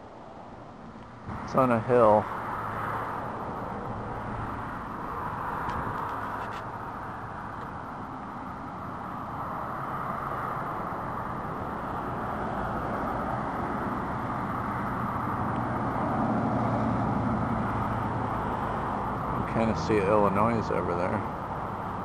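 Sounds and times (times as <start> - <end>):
cars driving past: 0.0 - 22.0.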